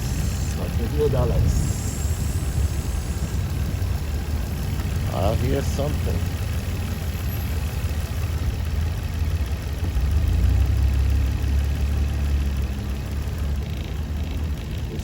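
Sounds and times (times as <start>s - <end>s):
car engine idling roughly: 0.0s - 15.0s.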